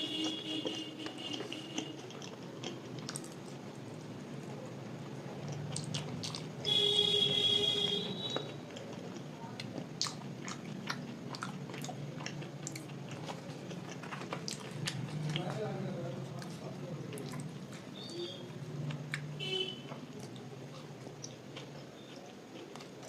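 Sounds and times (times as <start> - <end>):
close chewing and mouth clicks: 0.0 - 6.8, 8.1 - 15.6, 16.2 - 23.0.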